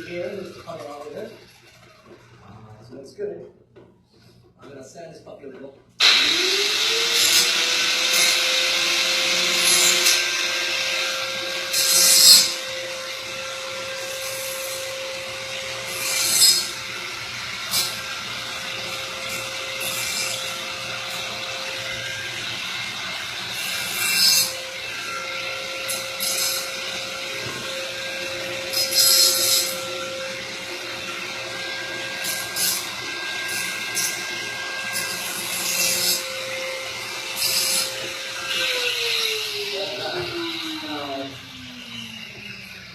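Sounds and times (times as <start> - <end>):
electric sander whining on pipe: 6.0 - 42.9.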